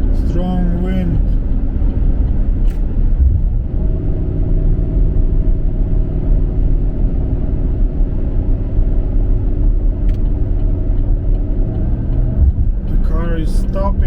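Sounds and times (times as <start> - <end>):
road noise: 0.0 - 14.0
wind buffeting a car: 0.0 - 14.0.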